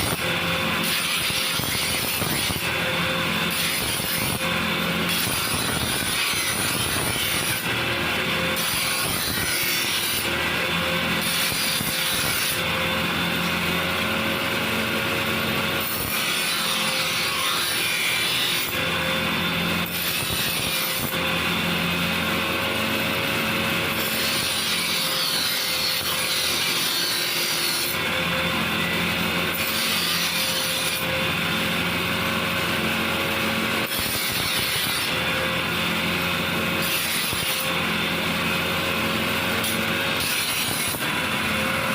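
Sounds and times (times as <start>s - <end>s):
electric power tool rasping: 0.0s - 41.9s.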